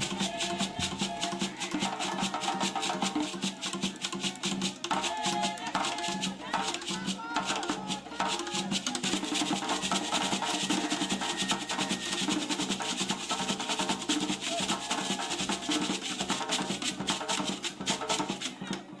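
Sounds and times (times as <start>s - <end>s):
fast drumming with percussion: 0.0s - 19.0s.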